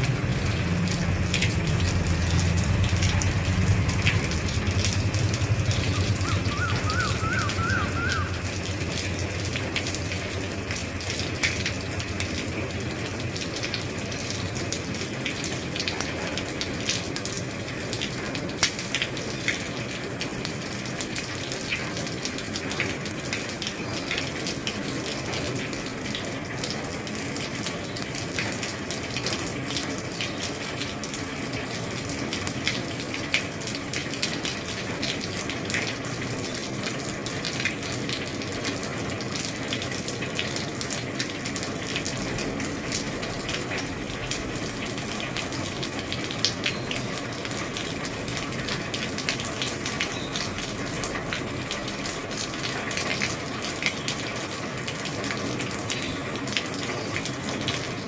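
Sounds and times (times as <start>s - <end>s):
rain on a roof: 0.0s - 58.0s.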